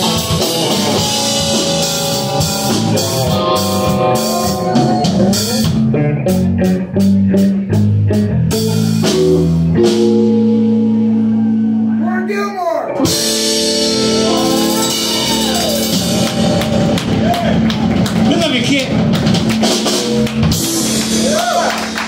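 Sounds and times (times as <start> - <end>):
drum kit: 0.0 - 11.8, 12.9 - 22.0
electric guitar: 0.0 - 12.0, 12.9 - 22.0
bass guitar: 0.0 - 22.0.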